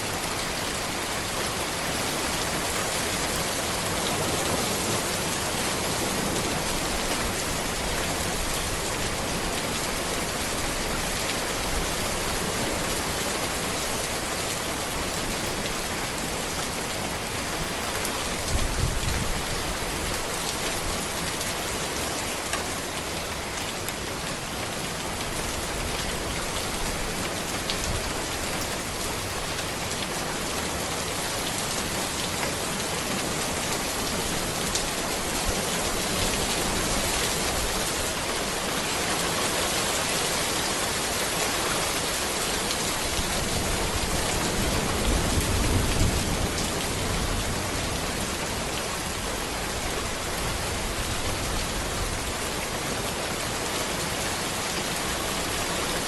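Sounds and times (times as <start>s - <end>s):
rain falling on road and trees: 0.0s - 56.0s.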